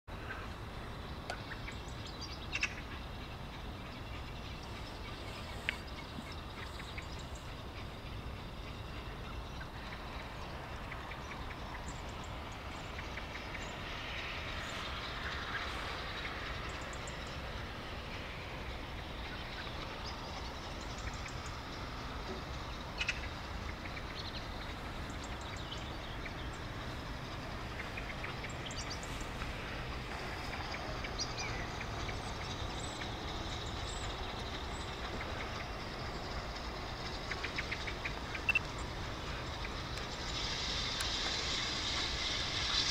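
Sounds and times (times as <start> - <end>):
steam locomotive low rumble: 0.1 - 42.9.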